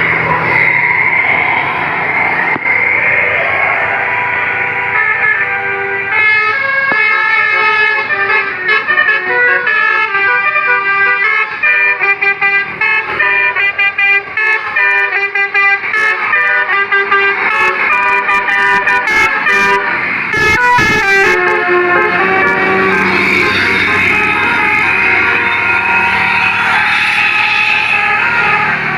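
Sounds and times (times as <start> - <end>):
multi-trumpet air horn melody: 4.6 - 28.9.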